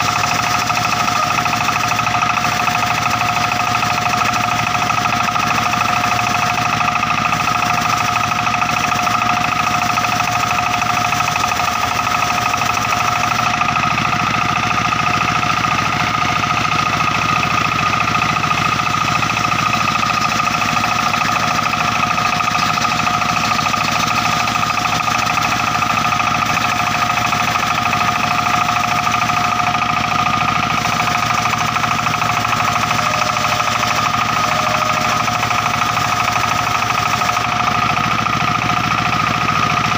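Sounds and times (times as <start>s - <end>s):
circular saw cutting log: 0.0s - 39.9s.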